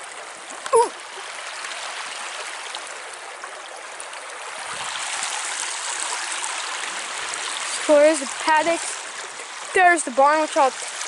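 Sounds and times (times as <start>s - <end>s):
creek water over rocks: 0.0s - 11.0s.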